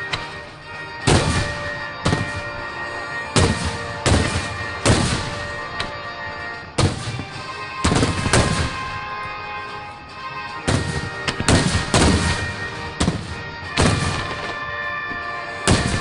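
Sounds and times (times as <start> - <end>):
music playing: 0.0 - 16.0.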